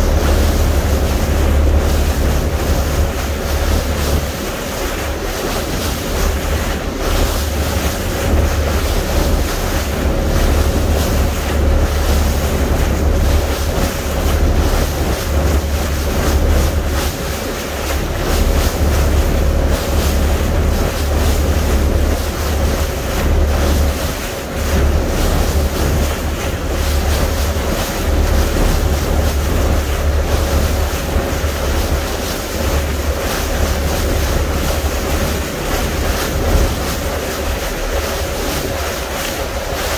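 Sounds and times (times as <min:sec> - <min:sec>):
boat engine hum: 0:00.0 - 0:39.9
water rushing along hull: 0:00.0 - 0:39.9
wind buffeting microphone: 0:00.0 - 0:39.9.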